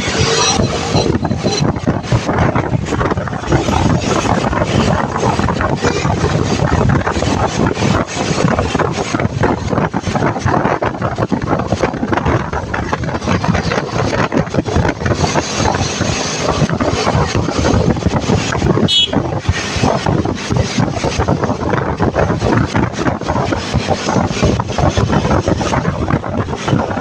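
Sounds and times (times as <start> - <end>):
vehicle rushing noise: 0.0 - 27.0
wind buffeting microphone: 0.0 - 27.0.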